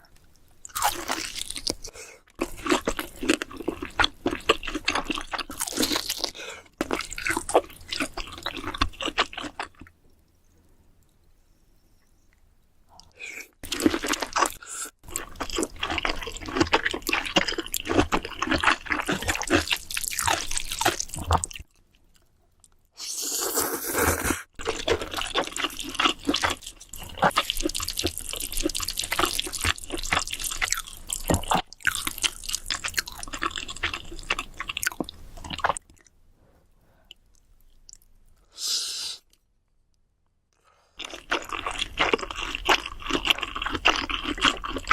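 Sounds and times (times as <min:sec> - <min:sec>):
wet chewing and slurping: 0:00.7 - 0:09.9, 0:13.0 - 0:36.1, 0:41.0 - 0:44.9.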